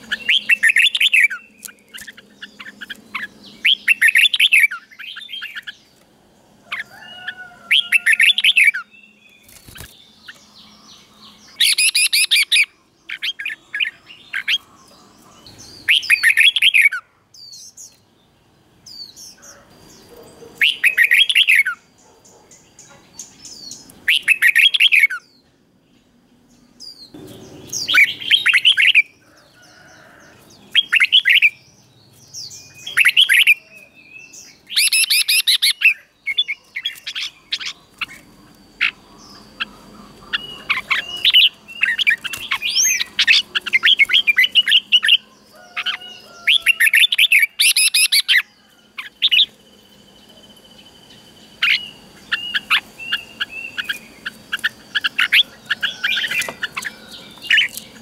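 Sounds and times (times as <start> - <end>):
bulbul singing: 0.0 - 18.2, 18.8 - 29.8, 30.5 - 58.0.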